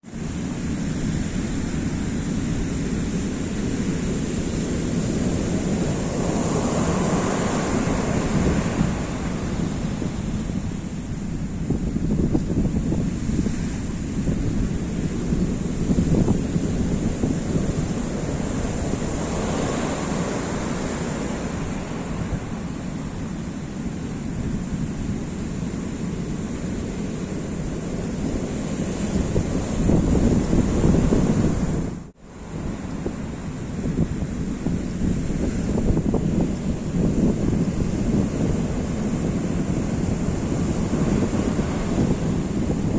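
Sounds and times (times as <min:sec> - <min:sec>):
sea surf breaking on beach: 0:00.0 - 0:42.9
wind buffeting microphone: 0:00.1 - 0:42.9.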